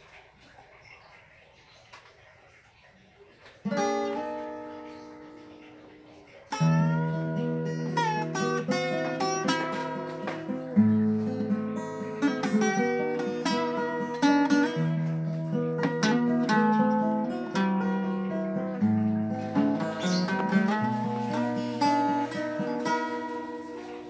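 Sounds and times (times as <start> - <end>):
acoustic guitar music: 3.5 - 24.0.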